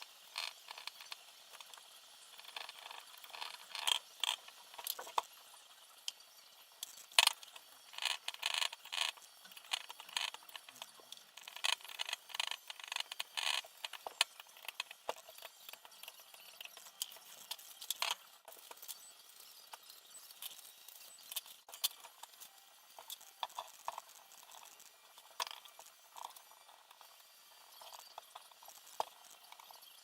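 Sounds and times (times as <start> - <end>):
small parts clicking and tapping: 0.0 - 30.0.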